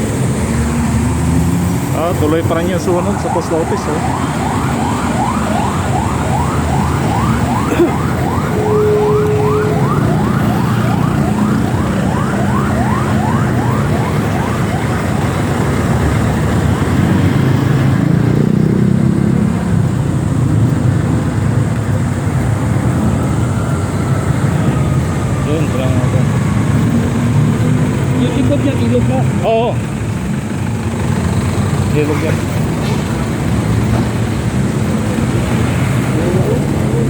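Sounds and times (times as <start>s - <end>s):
idling vehicle engines: 0.0s - 37.0s
emergency siren yelping: 0.1s - 37.0s.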